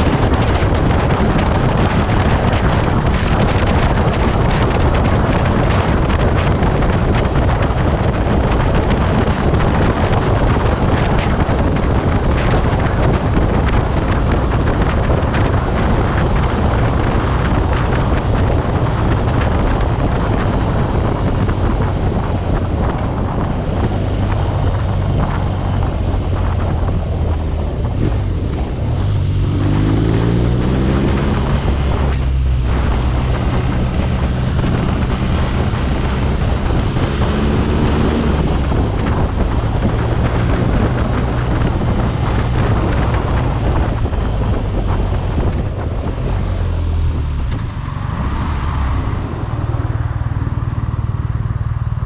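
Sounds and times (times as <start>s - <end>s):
motorcycle engine accelerating: 0.0s - 52.0s
wind buffeting microphone: 0.0s - 52.0s.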